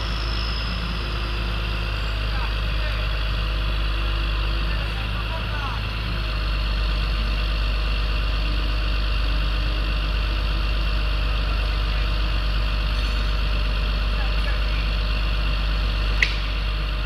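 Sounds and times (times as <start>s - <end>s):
diesel crane engine running: 0.0s - 17.0s.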